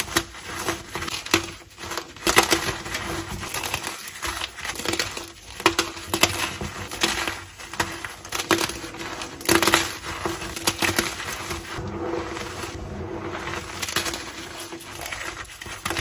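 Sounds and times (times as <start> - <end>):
chalk crunching and crumbling: 0.0 - 16.0.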